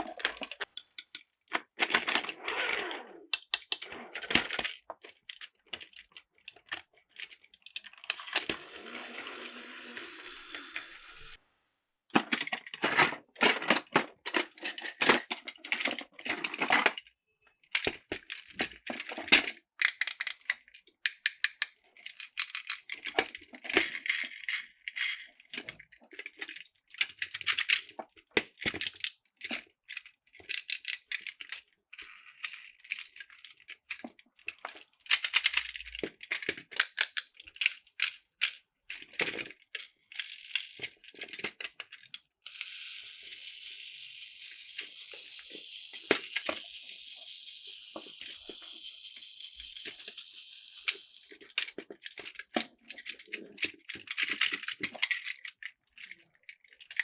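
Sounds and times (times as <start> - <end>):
plastic toy train pieces clattering: 0.0 - 2.4, 3.3 - 11.4, 12.2 - 57.0.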